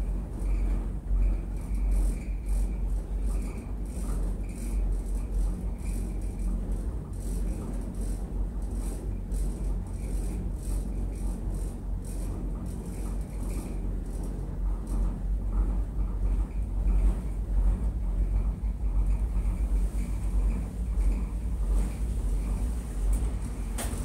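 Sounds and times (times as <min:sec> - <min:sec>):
gondola cabin rumble: 0:00.0 - 0:24.0
rattling windows and fittings: 0:03.2 - 0:24.0.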